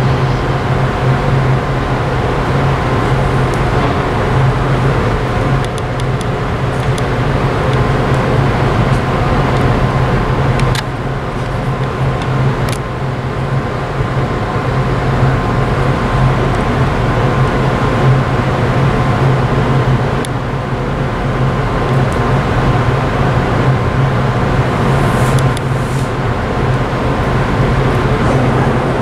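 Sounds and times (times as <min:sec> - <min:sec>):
distant port machinery: 0:00.0 - 0:29.0
ship engines droning: 0:00.0 - 0:29.0
thin steady whine: 0:00.0 - 0:29.0.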